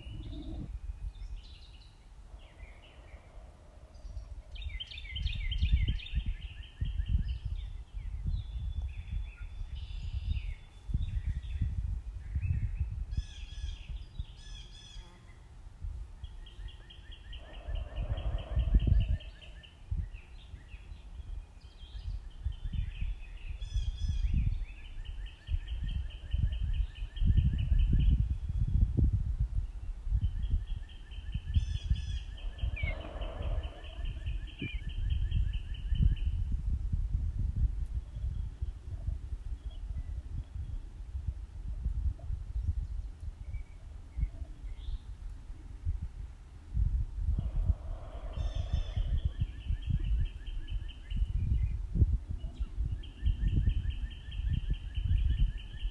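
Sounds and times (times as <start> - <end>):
gusty low rumble: 0.0 - 1.6, 2.2 - 14.6, 17.3 - 20.5, 25.6 - 55.9
songbird trill: 0.0 - 15.5, 16.2 - 28.8, 29.6 - 36.5, 38.0 - 40.9, 42.5 - 45.2, 47.4 - 55.9.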